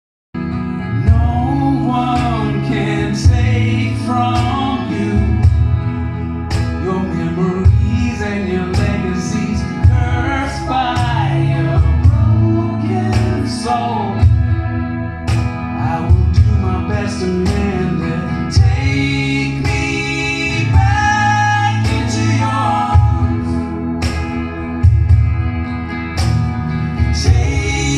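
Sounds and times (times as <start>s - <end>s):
pop-rock band playing live: 0.4s - 27.9s
person singing: 0.8s - 5.8s, 6.6s - 14.7s, 15.7s - 24.3s, 27.0s - 27.9s.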